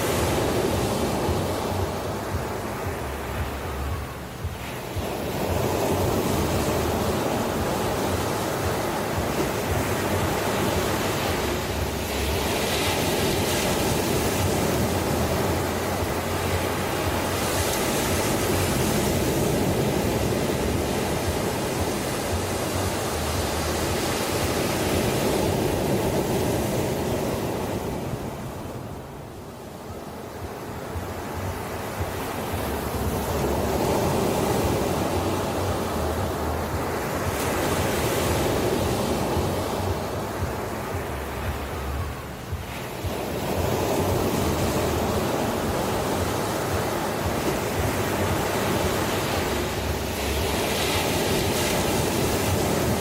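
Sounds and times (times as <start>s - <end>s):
ocean surf breaking: 0.0s - 53.0s.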